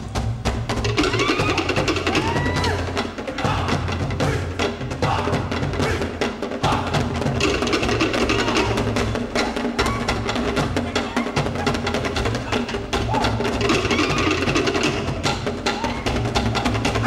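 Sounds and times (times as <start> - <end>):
sharp strikes on wooden slit drums: 0.0 - 17.0.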